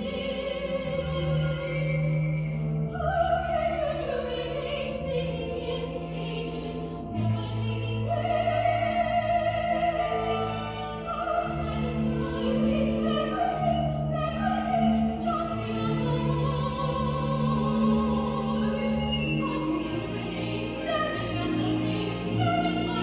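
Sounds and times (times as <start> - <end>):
orchestral accompaniment: 0.0 - 23.0.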